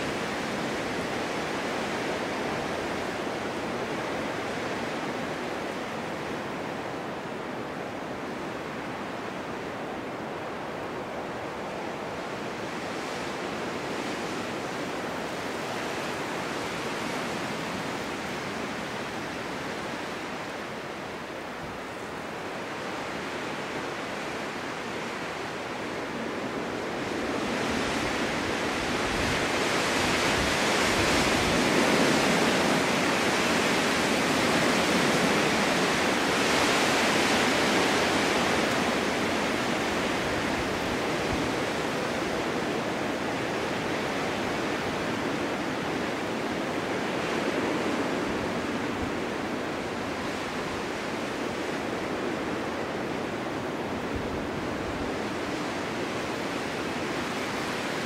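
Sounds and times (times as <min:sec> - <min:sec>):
wind rushing through forest: 0:00.0 - 0:58.0.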